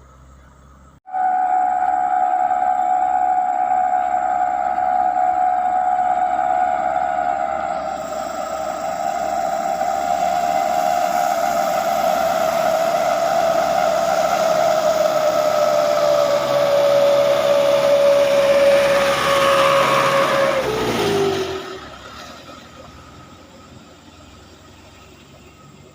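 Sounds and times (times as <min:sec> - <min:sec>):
engine whining: 0:00.0 - 0:25.9.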